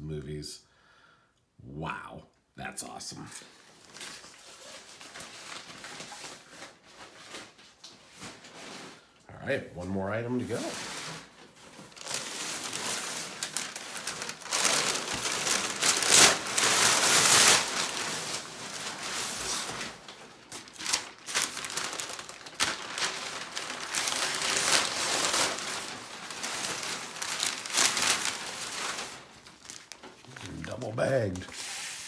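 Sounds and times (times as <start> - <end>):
plastic bags crinkling: 3.8 - 9.1, 10.4 - 31.6.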